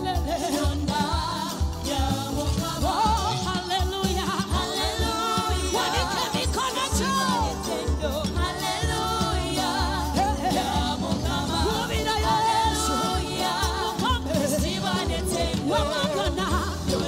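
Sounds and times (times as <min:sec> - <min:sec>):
band with bass line: 0:00.0 - 0:17.0
voices singing gospel: 0:00.0 - 0:17.0.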